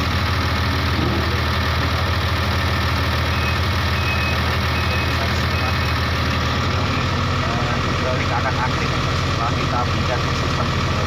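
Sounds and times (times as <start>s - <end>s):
bulldozer diesel engine idling: 0.0s - 11.0s.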